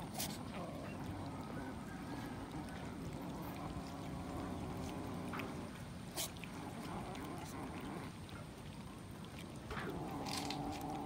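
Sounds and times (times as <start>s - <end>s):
cats chewing and lapping food: 0.0s - 11.0s.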